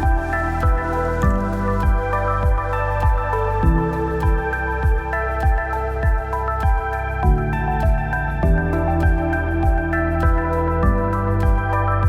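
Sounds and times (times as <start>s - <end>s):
calm new-age synth music: 0.0s - 12.0s.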